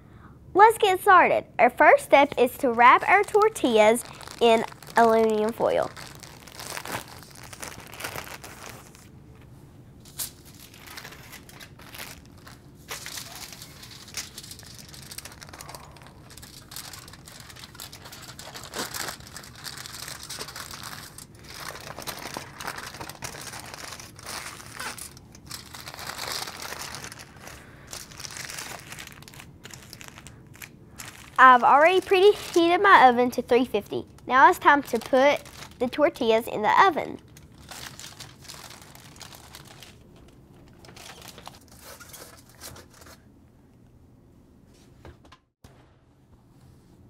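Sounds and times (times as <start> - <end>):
plastic bag and foil crinkling: 2.3 - 9.1, 10.1 - 43.2.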